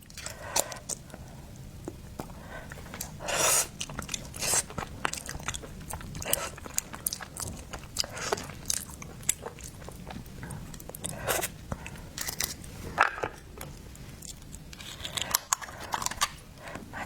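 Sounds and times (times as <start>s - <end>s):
person chewing seafood: 0.0s - 12.7s, 13.5s - 16.8s.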